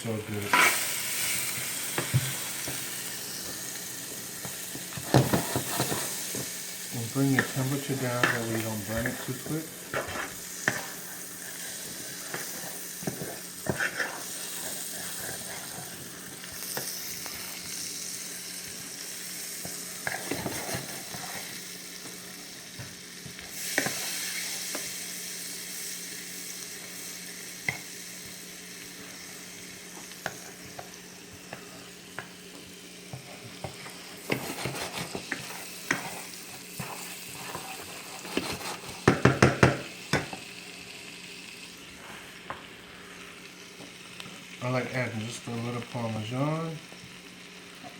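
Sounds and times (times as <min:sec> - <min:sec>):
garlic sizzling in a pan: 0:00.0 - 0:47.9.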